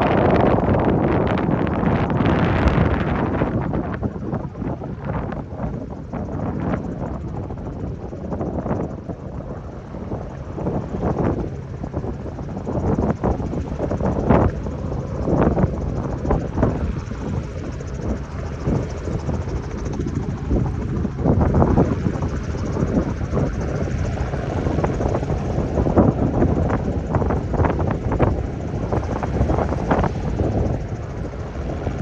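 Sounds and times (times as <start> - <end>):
propeller aircraft engine: 0.0 - 32.0
wind buffeting microphone: 0.0 - 32.0.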